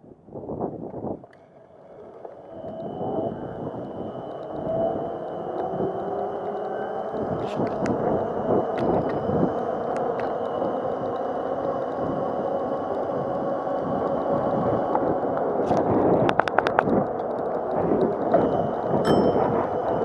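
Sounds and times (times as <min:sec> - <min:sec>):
tyre and wind noise: 0:00.0 - 0:20.0.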